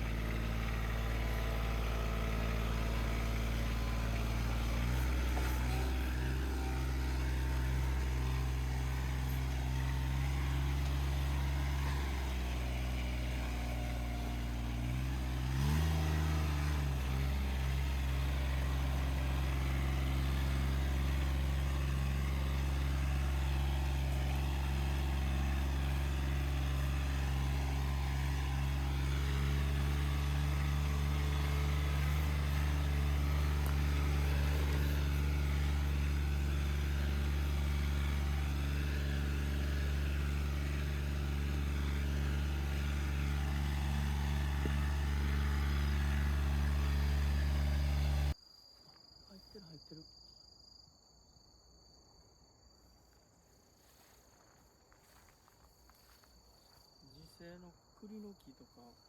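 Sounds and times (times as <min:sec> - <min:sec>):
engine running and revving: 0:00.0 - 0:48.4.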